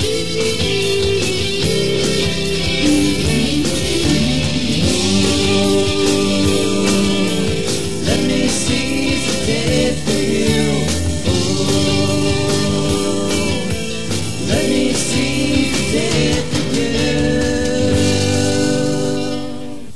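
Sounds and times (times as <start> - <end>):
rock guitar backing: 0.0 - 19.9
person singing lead vocal: 1.6 - 19.9.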